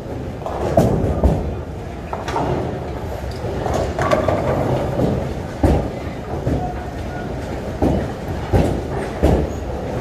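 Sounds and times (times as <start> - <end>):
bowling balls rumbling: 0.0 - 10.0.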